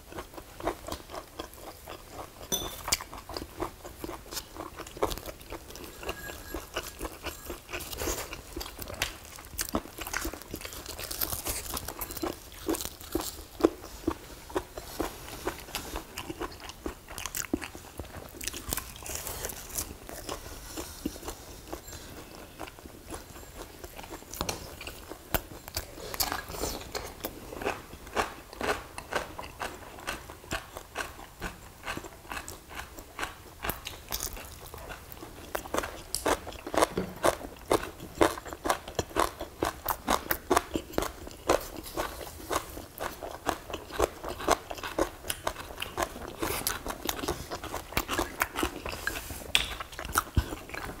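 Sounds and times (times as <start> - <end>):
people chewing and crunching food: 0.0 - 51.0.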